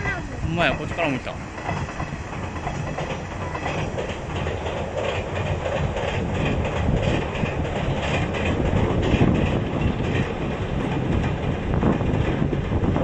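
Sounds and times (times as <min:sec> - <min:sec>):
train rumbling over bridge: 0:00.0 - 0:13.0
wheels clattering over rail joints: 0:00.0 - 0:13.0.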